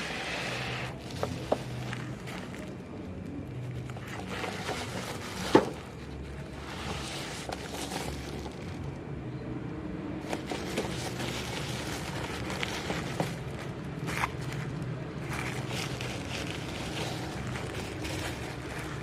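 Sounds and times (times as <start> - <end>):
toy packaging clicks and rustles: 0.8 - 8.9, 10.2 - 19.0.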